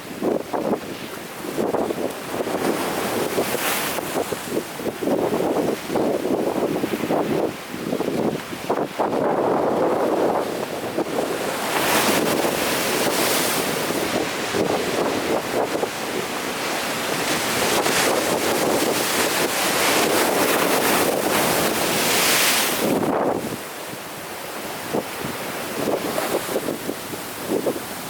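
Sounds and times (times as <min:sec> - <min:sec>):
wind buffeting microphone: 0:00.0 - 0:24.0, 0:24.6 - 0:28.0
ocean surf breaking: 0:01.6 - 0:28.0.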